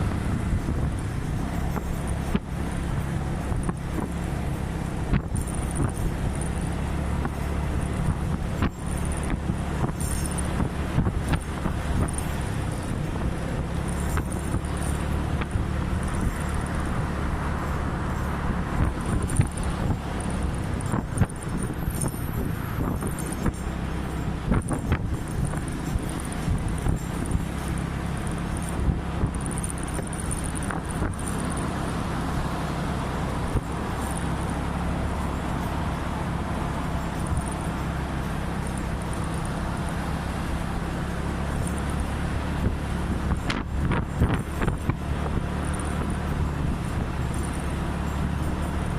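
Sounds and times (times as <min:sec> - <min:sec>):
road noise: 0:00.0 - 0:48.9
scooter engine running: 0:00.0 - 0:48.9
wind noise: 0:00.0 - 0:48.9.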